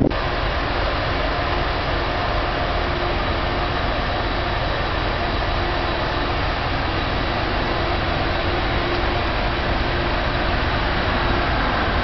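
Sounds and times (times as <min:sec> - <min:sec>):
electric locomotive droning: 0:00.0 - 0:12.0.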